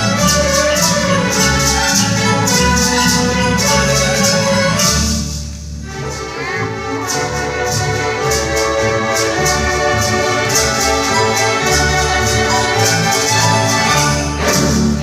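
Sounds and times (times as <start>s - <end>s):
sleigh bells shaken: 0.0s - 5.5s, 7.0s - 15.0s
orchestra playing sustained chords: 0.0s - 15.0s.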